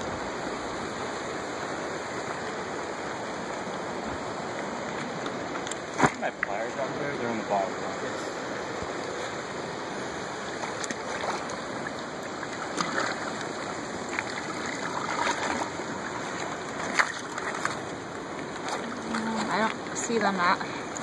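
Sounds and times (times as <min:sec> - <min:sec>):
creek water rushing over rocks: 0:00.0 - 0:21.0
water splashes: 0:00.0 - 0:21.0.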